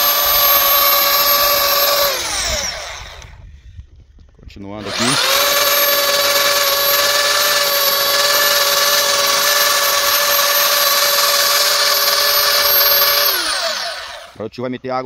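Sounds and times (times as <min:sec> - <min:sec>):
plastic welder motor whine: 0:00.0 - 0:03.4, 0:04.8 - 0:14.4.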